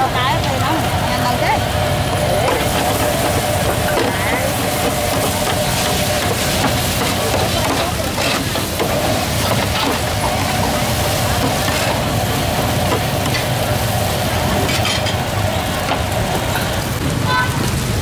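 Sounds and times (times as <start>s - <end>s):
noodles sizzling on a griddle: 0.0s - 18.0s.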